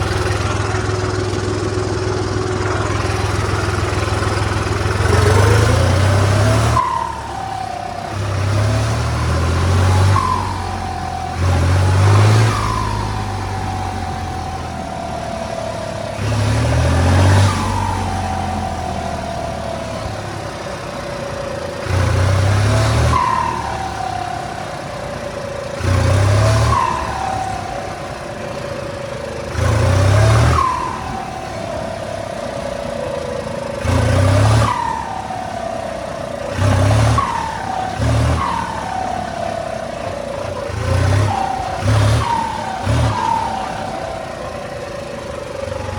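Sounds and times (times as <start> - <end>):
car engine idling and revving: 0.0 - 45.9
turbo whistling: 0.0 - 45.9.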